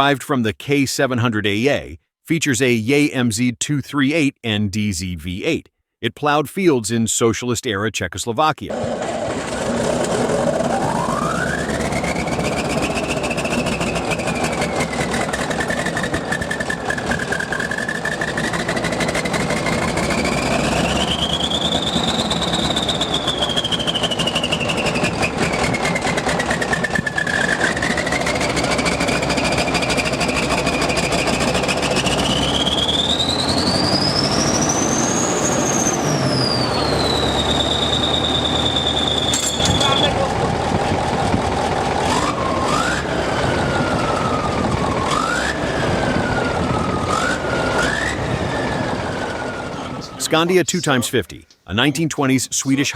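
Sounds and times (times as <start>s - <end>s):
high engine whine: 8.7s - 51.6s
diesel tractor engine running: 8.7s - 52.2s.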